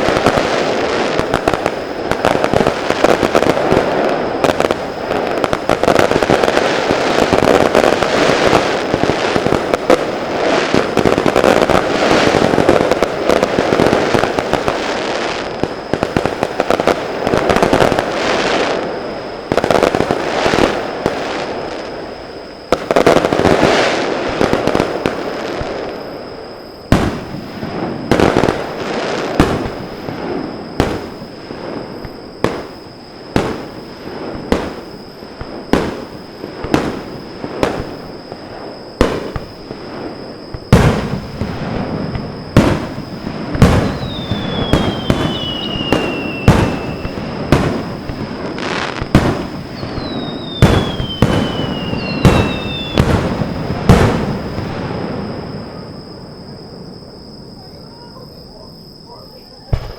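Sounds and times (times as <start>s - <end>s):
falling firework whistle: 0.0s - 59.9s
firework crackling: 0.0s - 59.9s.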